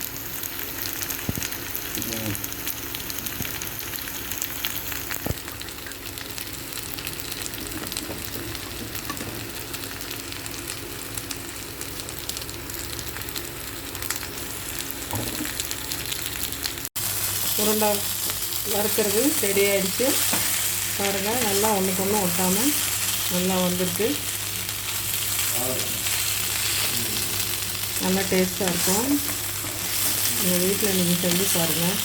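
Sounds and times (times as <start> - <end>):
meatballs sizzling in oil: 0.0 - 32.0.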